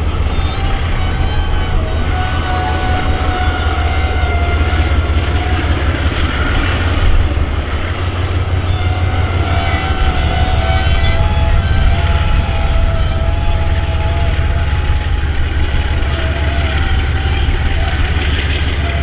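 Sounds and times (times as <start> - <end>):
high wheel squeals: 0.0 - 19.0
locomotive engine rumble: 0.0 - 19.0.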